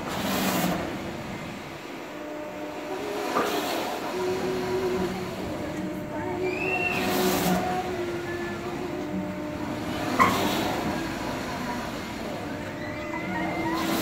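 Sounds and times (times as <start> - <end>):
steady mechanical hum: 0.0 - 14.0
swinging ride whooshing past: 2.6 - 14.0.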